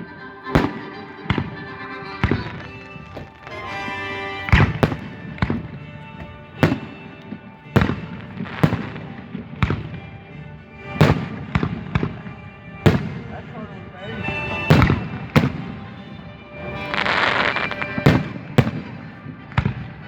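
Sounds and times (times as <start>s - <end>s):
background music: 0.0s - 20.0s
fireworks bangs: 0.4s - 19.7s.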